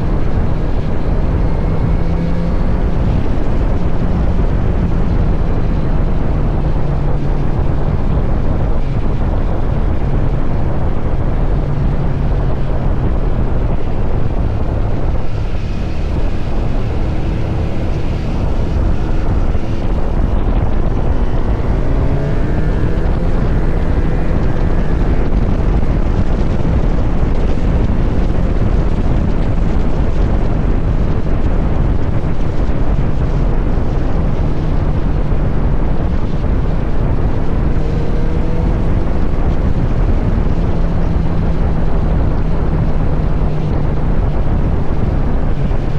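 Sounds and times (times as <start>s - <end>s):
motorcycle engine at speed: 0.0s - 45.9s
wind noise on microphone: 0.0s - 45.9s.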